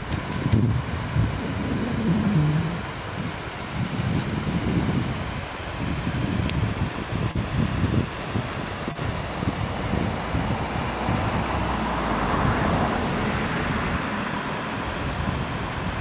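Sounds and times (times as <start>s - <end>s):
steady rushing noise: 0.0s - 16.0s
wind buffeting microphone: 0.0s - 16.0s.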